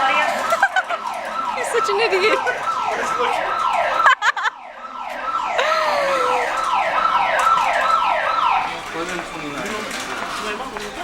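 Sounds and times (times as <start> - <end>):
siren fast falling wail: 0.0 - 9.9.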